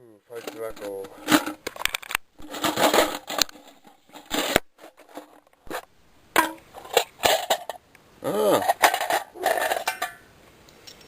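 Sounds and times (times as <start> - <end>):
clattering and scraping: 0.3 - 7.8, 8.6 - 10.2.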